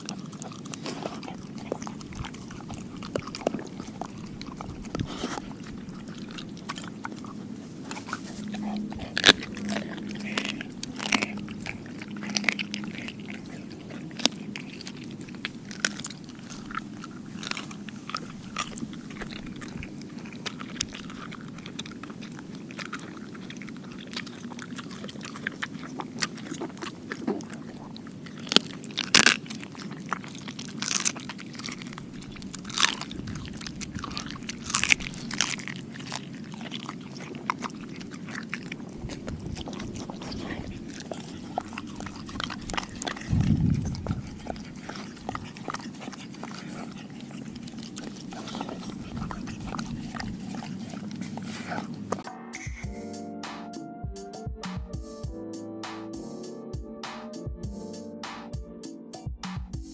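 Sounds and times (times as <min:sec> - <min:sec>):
dog chewing and crunching: 0:00.0 - 0:52.9.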